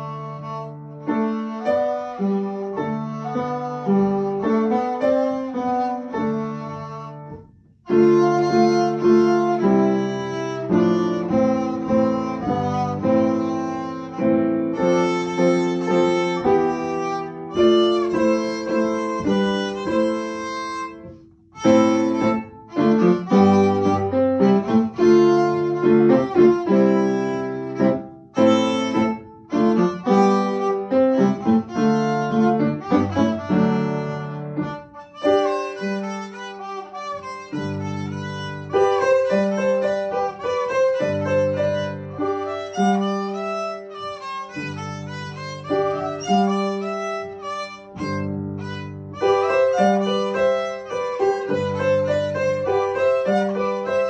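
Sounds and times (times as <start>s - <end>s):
upright piano accompaniment: 0.0s - 54.0s
violin playing: 0.0s - 54.0s.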